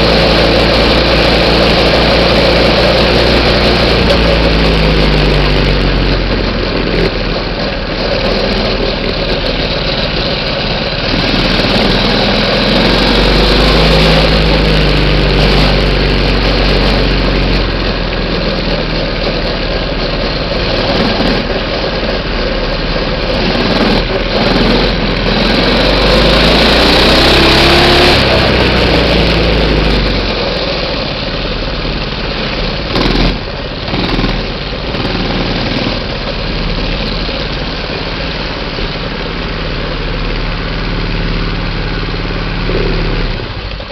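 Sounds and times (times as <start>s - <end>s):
small engine revving: 0.0s - 43.9s.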